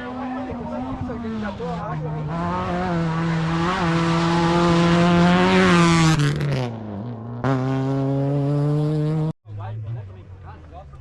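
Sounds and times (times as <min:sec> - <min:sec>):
rally car engine passing: 0:00.0 - 0:11.0.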